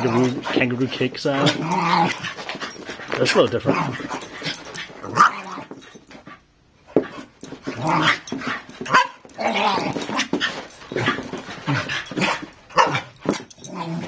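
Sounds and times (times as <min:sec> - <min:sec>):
dogs growling and barking: 0:00.0 - 0:14.0.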